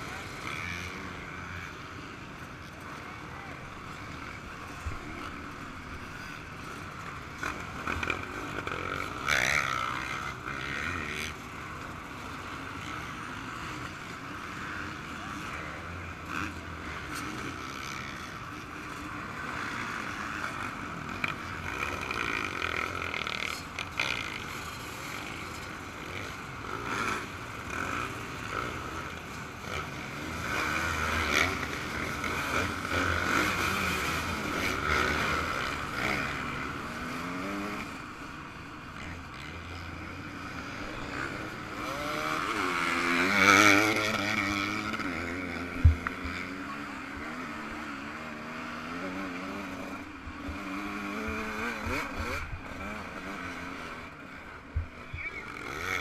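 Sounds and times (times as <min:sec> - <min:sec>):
muffled motorcycle engine: 0:00.0 - 0:56.0.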